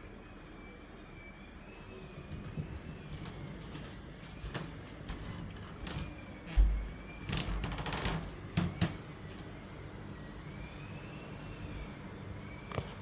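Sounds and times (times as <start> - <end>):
faint wavering high whine: 0.0 - 13.0.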